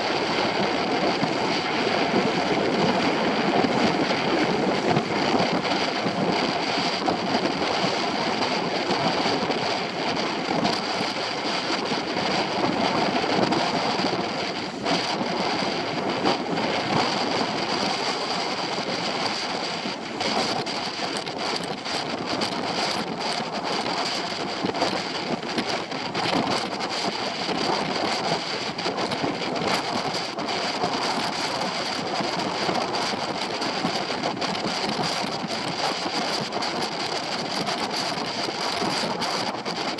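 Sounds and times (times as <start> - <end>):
water rushing past hull: 0.0 - 39.9
wind buffeting microphone: 0.0 - 39.9.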